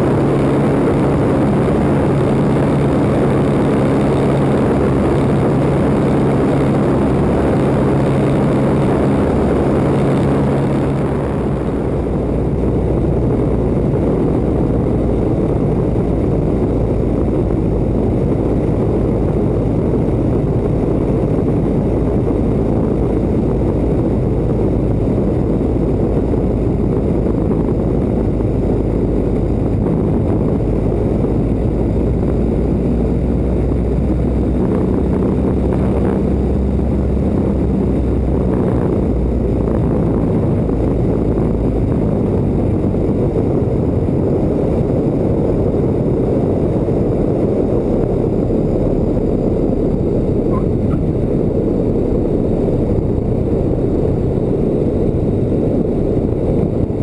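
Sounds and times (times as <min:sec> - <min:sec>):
airplane engine running: 0:00.0 - 0:57.0
rushing wind: 0:00.0 - 0:57.0.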